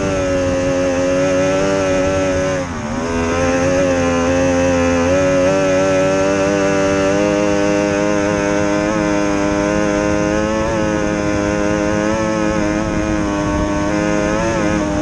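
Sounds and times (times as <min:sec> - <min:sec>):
outboard boat engine running: 0:00.0 - 0:15.0.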